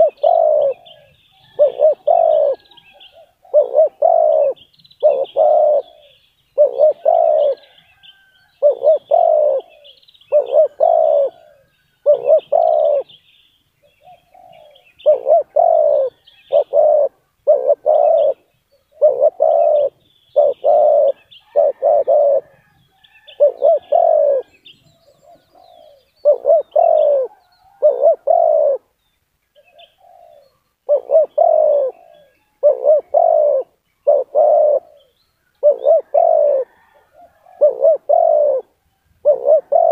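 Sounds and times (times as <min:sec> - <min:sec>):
dove cooing: 0:00.0 - 0:13.2, 0:13.8 - 0:29.0, 0:29.6 - 0:39.9
small birds chirping: 0:00.0 - 0:36.9, 0:37.6 - 0:39.9.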